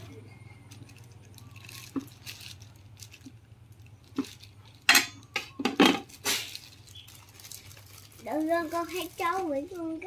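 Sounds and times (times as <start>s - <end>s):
plastic bag rustling: 0.6s - 4.9s, 5.8s - 10.0s.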